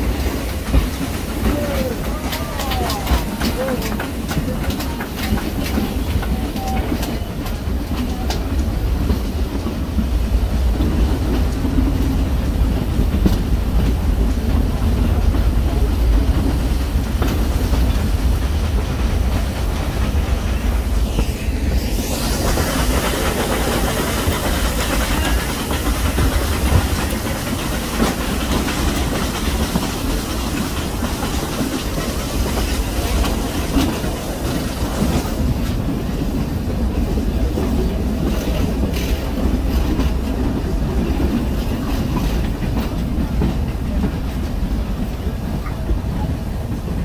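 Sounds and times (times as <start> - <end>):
train wheels clattering on track: 0.0 - 47.0.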